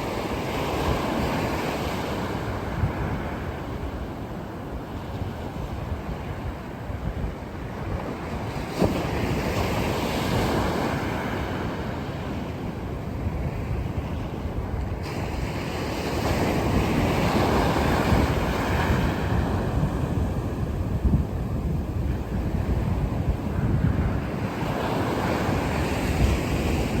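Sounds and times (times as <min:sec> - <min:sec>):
sea waves breaking on shore: 0:00.0 - 0:27.0
wind buffeting microphone: 0:00.0 - 0:27.0.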